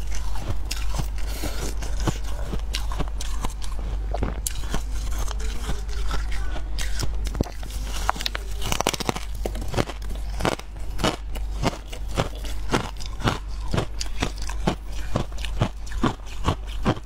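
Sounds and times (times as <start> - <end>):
person chewing frost: 0.0 - 17.0.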